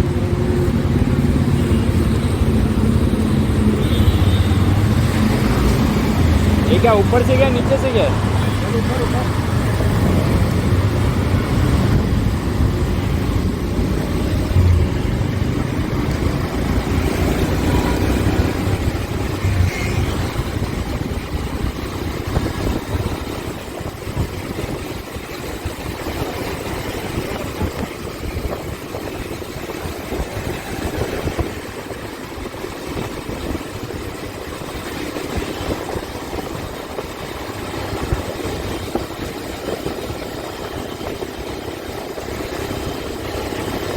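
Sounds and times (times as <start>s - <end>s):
motorcycle engine humming: 0.0s - 43.9s.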